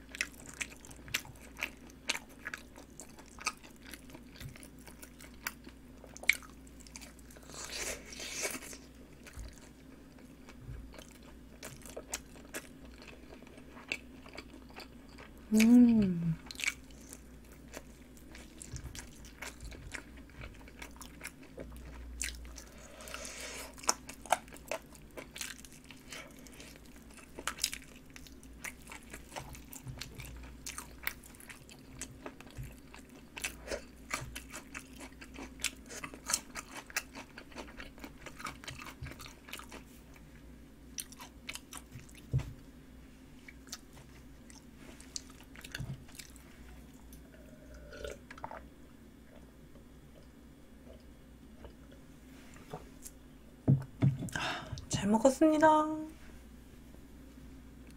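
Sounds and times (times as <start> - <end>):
wet chewing with small crunches: 0.0 - 42.7, 43.4 - 53.2.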